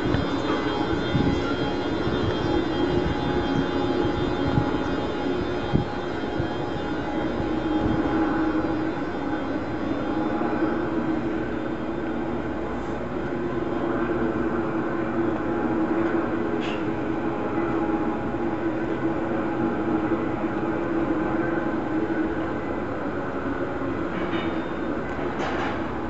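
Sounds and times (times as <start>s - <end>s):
electric train equipment hum: 0.0s - 26.0s.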